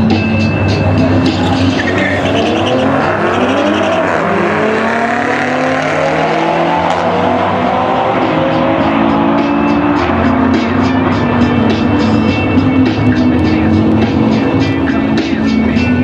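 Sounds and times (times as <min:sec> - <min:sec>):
cars accelerating hard: 0:00.0 - 0:16.0.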